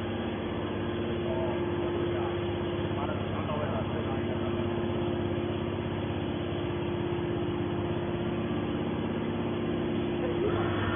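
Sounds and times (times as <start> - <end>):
hydraulic baler motor hum: 0.0 - 10.9.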